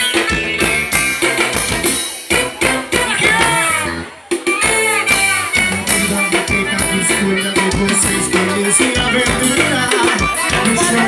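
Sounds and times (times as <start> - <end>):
band playing music: 0.0 - 11.0.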